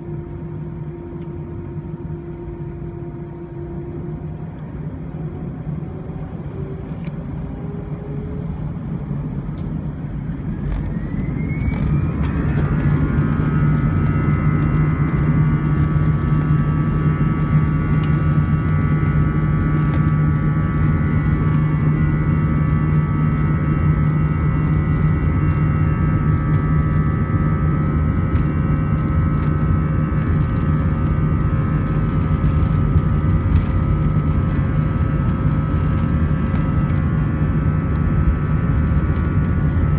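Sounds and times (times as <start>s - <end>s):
jet engines whining and droning: 0.0s - 39.9s.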